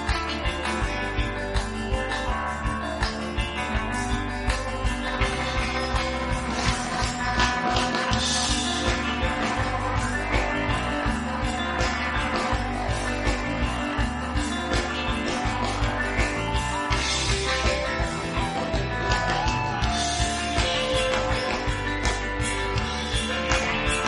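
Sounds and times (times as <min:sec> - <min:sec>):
rock music with guitar and beat: 0:00.0 - 0:24.0.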